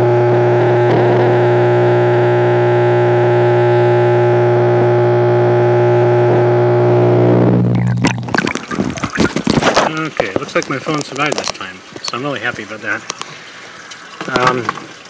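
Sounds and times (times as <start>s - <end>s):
underwater pump motor hum: 0.0s - 15.0s.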